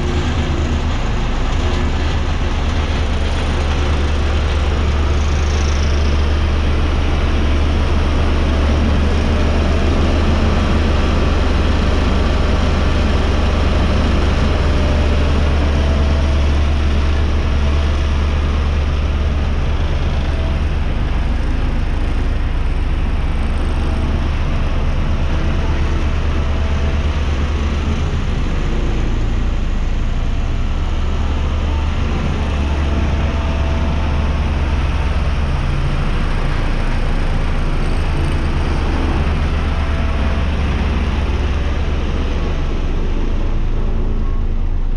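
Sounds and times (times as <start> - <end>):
diesel roller engine humming: 0.0 - 44.9.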